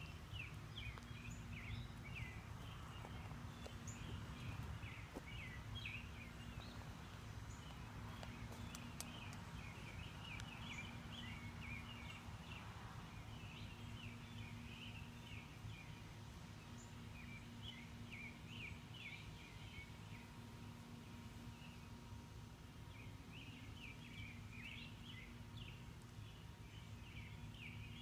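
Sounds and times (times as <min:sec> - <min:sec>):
low background rumble: 0:00.0 - 0:28.0
songbirds chirping and twittering: 0:00.0 - 0:28.0.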